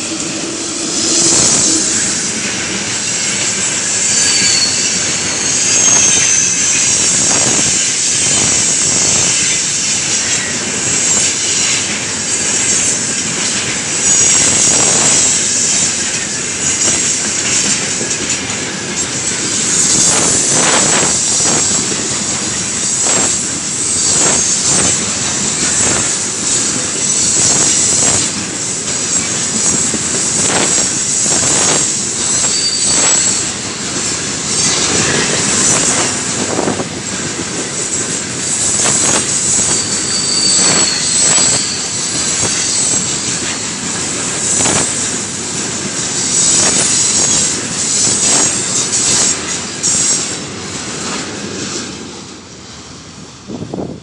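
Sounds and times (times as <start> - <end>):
high wheel squeal: 0.0 - 50.4
steel-wheel rumble: 0.0 - 52.4
wheels clacking over rail joints: 0.0 - 52.5.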